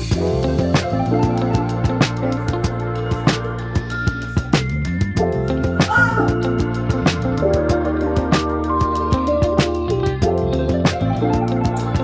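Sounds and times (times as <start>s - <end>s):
steady drum beat: 0.0s - 12.0s
sustained instrumental notes: 0.2s - 12.0s.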